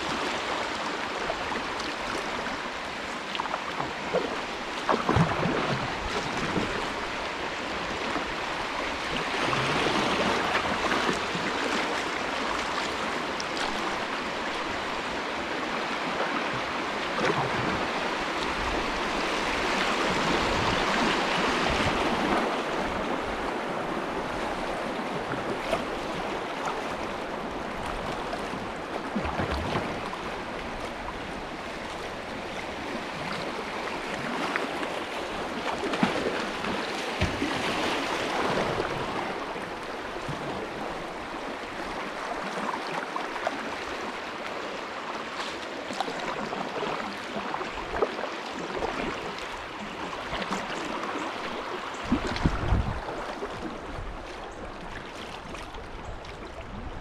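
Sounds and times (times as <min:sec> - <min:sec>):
river rushing and splashing: 0:00.0 - 0:57.0.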